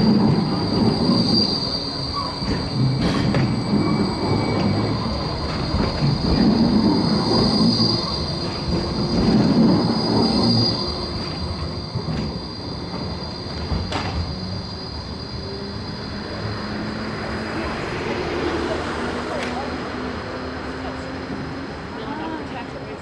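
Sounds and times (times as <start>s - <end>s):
tram wheels squealing: 0.0s - 23.0s
wheels rumbling on rails: 0.0s - 23.0s.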